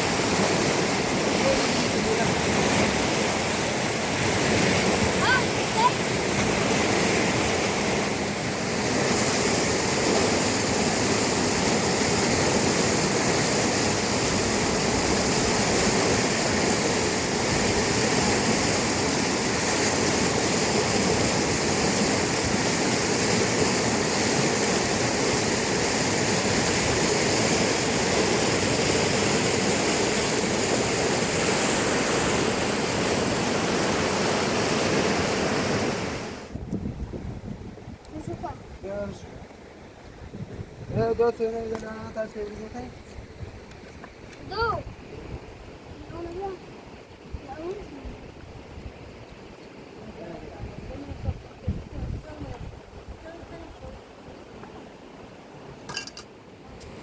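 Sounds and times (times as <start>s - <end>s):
mountain river rushing: 0.0s - 57.0s.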